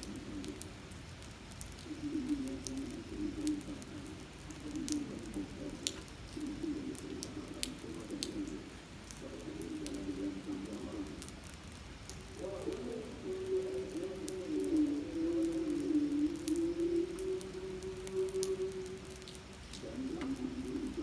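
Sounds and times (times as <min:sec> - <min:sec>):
rain hissing on pavement: 0:00.0 - 0:21.0
raindrops ticking: 0:00.0 - 0:21.0.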